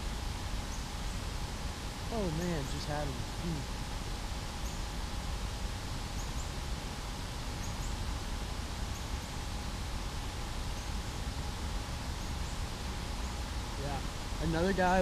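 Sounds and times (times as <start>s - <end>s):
background hiss and low rumble: 0.0s - 15.0s
small birds chirping: 2.0s - 6.7s, 7.4s - 15.0s.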